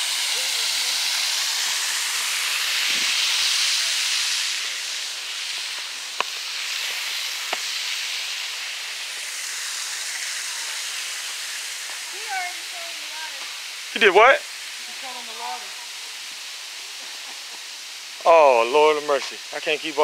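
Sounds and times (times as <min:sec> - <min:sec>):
small waterfall rushing: 0:00.0 - 0:20.0.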